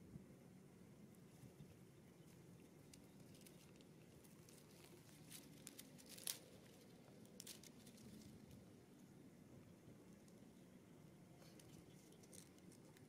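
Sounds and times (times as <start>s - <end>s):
rustling grass and dry leaves: 1.0s - 13.0s.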